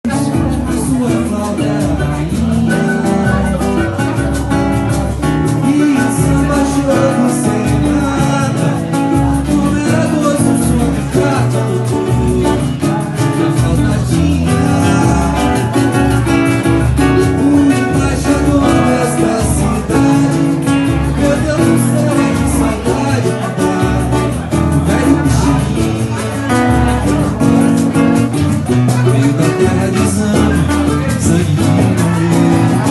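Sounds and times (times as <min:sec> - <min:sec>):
percussion: 0:00.0 - 0:32.9
plucked acoustic guitar: 0:00.0 - 0:32.9
person singing: 0:00.1 - 0:32.9.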